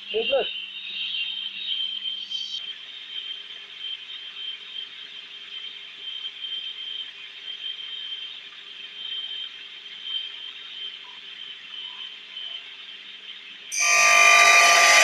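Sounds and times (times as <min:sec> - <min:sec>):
water pump humming and whining: 0:02.1 - 0:15.0.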